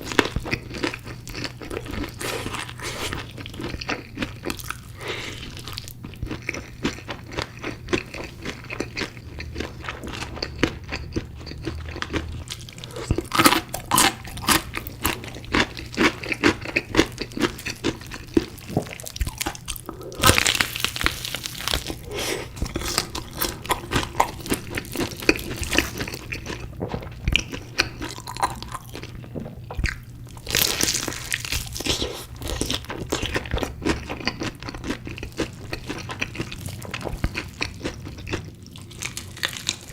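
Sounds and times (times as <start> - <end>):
crunchy chicken being chewed: 0.0 - 39.9.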